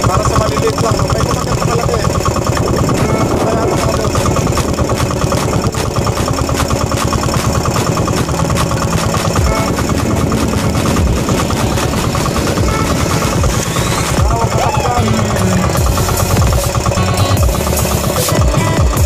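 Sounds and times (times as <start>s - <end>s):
boat engine running steadily: 0.0s - 19.0s.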